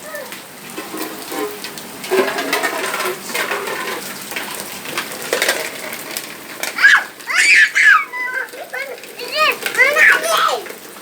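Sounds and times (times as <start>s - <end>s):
rain: 0.0s - 11.0s
splashes: 0.0s - 11.0s.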